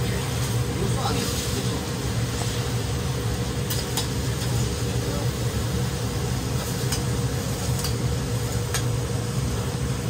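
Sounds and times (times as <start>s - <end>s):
food sizzling on a griddle: 0.0s - 10.0s
steady low hum: 0.0s - 10.0s.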